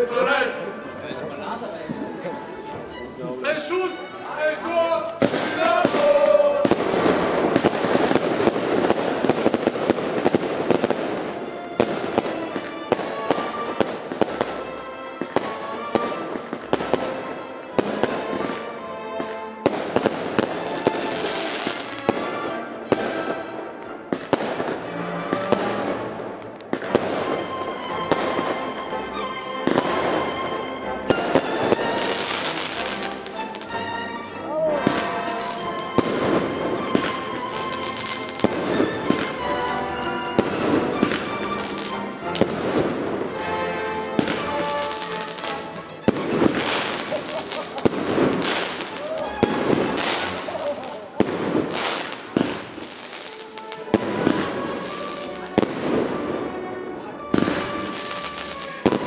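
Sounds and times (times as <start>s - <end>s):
fireworks bangs: 0.0s - 23.5s, 26.6s - 28.6s, 31.0s - 33.7s, 34.8s - 43.3s, 44.1s - 56.4s, 57.3s - 59.0s
fireworks crackling: 0.0s - 28.6s, 29.6s - 43.4s, 44.0s - 56.6s, 57.2s - 59.0s.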